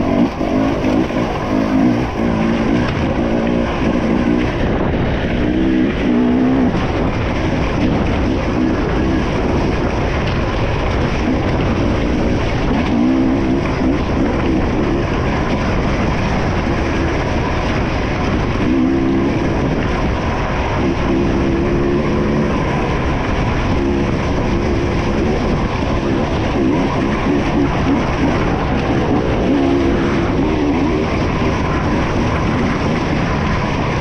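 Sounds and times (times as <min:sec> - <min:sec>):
dirt bike engine revving: 0:00.0 - 0:34.0
track noise: 0:00.0 - 0:34.0
wind rushing: 0:00.0 - 0:34.0.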